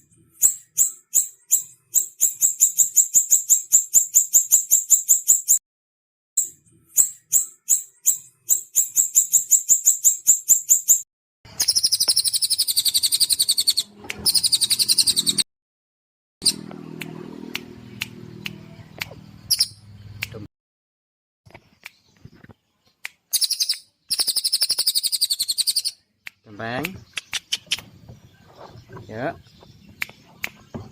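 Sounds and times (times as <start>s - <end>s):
songbird chirping and trilling: 0.2s - 5.6s, 6.4s - 11.0s, 11.6s - 15.4s, 16.4s - 20.4s, 21.5s - 30.9s.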